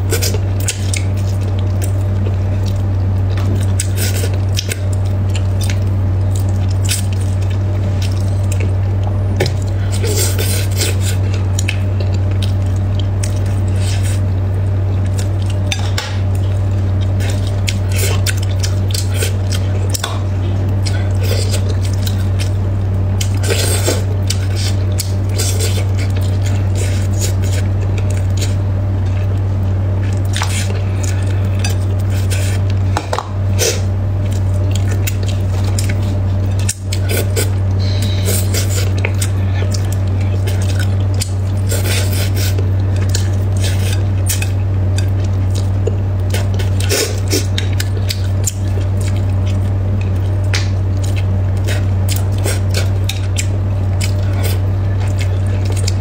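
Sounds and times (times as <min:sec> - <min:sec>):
steady low hum: 0:00.0 - 0:56.0
wet squishing eating sounds: 0:00.0 - 0:56.0.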